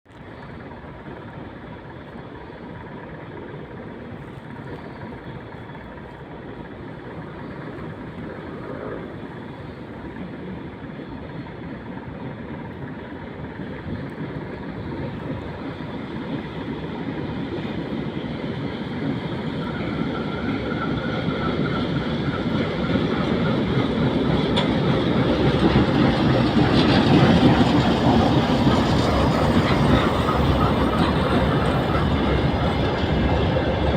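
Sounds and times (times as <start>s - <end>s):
diesel locomotive engine: 0.0s - 33.9s
train wheels rolling: 0.1s - 33.9s.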